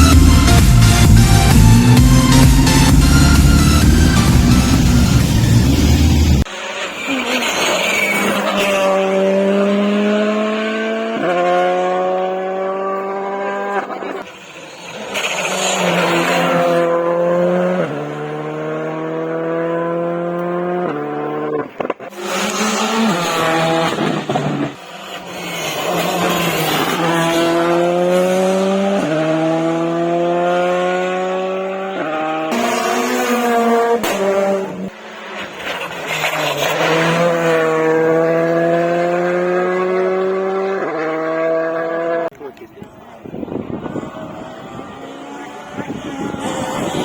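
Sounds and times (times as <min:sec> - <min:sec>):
rally car engine accelerating: 0:00.0 - 0:47.0.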